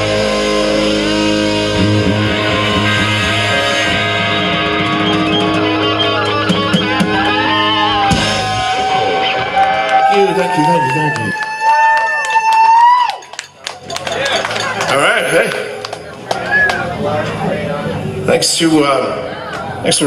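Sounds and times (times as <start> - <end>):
live rock band with electric guitars: 0.0 - 20.0.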